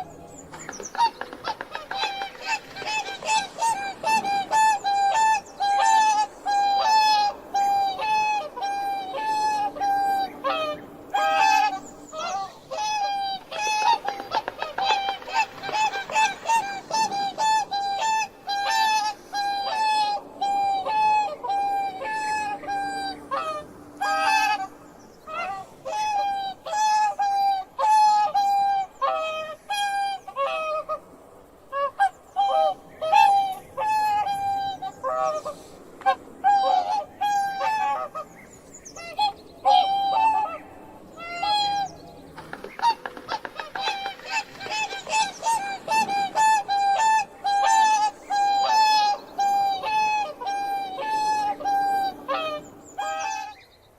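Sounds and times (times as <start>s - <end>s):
swans honking: 0.0s - 53.6s.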